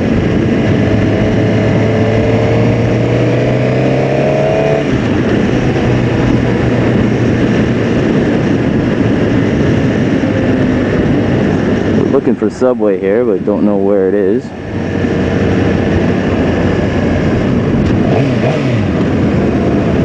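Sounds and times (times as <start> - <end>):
motorcycle engine at speed: 0.0 - 20.0
wind rush on microphone: 0.0 - 20.0.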